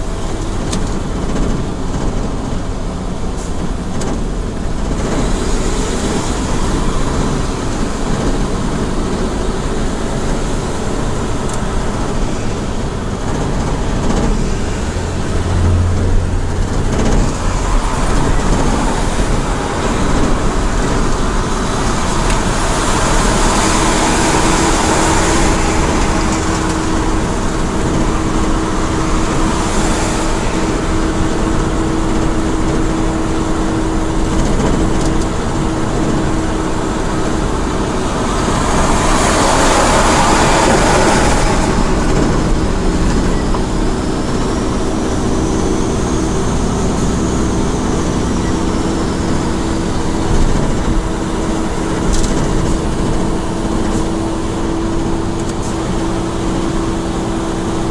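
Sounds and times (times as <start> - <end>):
truck engine and tyre drone: 0.0 - 57.9.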